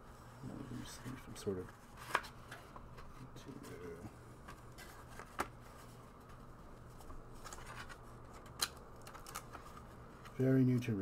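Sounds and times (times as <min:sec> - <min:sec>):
paper pages rustling: 0:01.5 - 0:10.5.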